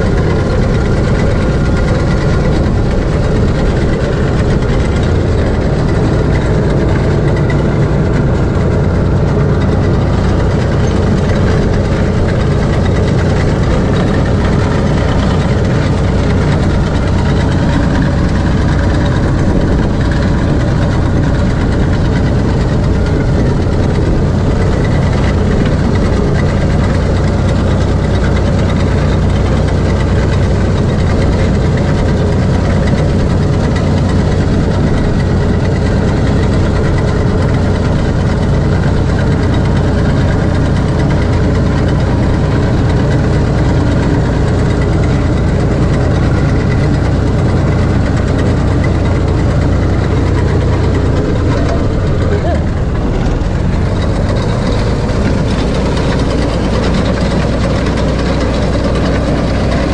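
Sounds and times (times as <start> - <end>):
reaper mechanical rattle: 0.0 - 59.9
tractor engine running: 0.0 - 59.9.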